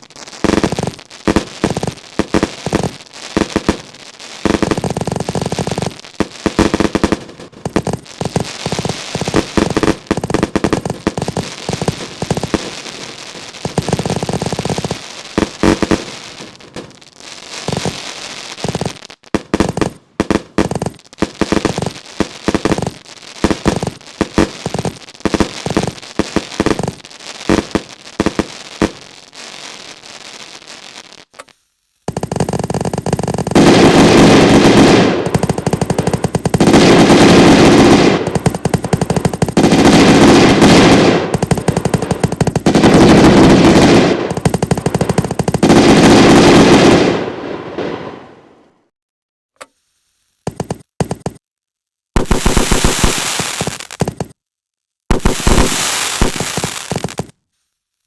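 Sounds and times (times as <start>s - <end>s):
fireworks bangs and crackles: 0.0s - 48.4s, 50.5s - 51.4s, 52.2s - 54.4s, 55.1s - 57.4s.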